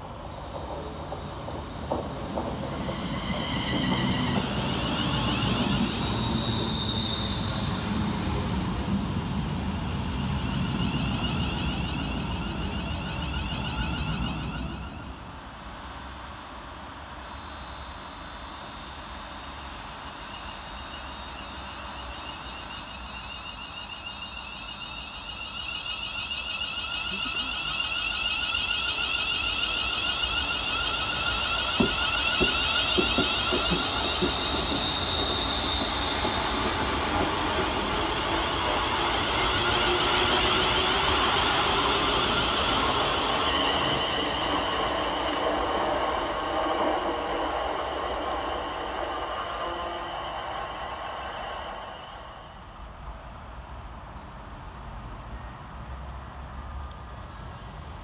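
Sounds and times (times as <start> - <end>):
electric train motors whining: 0.0 - 15.5, 17.3 - 52.8
train wheel and motor noise: 0.0 - 58.0.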